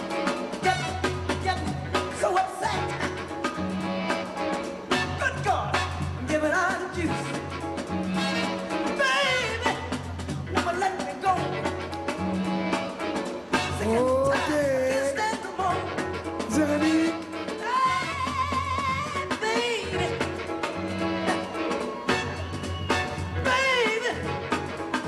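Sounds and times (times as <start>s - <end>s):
upbeat song with singing: 0.0s - 3.4s, 5.0s - 7.5s, 8.4s - 11.9s, 13.5s - 25.0s
bass line and drums: 0.0s - 25.0s.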